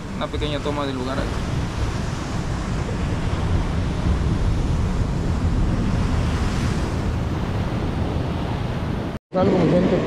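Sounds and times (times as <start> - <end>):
ocean surf breaking: 0.0 - 10.0
wind on microphone: 0.0 - 10.0.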